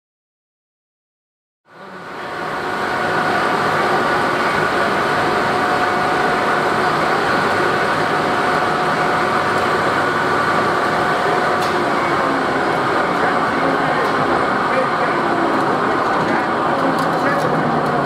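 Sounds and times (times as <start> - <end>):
pellet machine running: 1.7 - 18.0.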